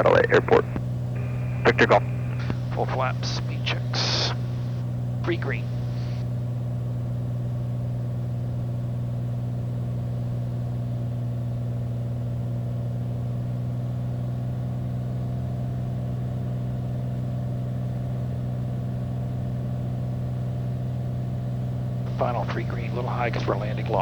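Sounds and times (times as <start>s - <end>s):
propeller aircraft engine droning: 0.0s - 24.0s.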